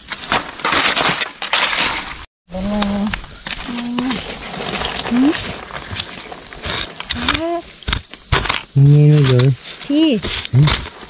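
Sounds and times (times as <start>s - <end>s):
digging tool scraping soil: 0.0s - 11.0s
insects droning: 0.0s - 11.0s.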